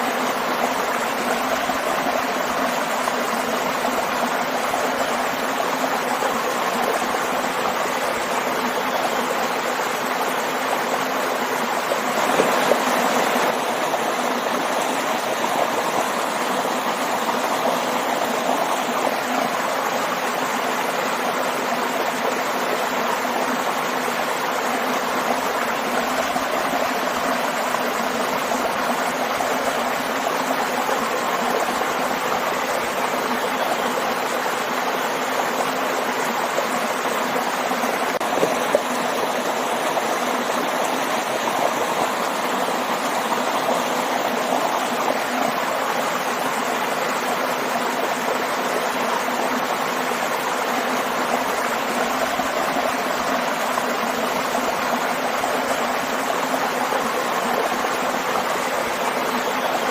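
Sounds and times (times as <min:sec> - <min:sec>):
water rushing and splashing: 0:00.0 - 0:59.9.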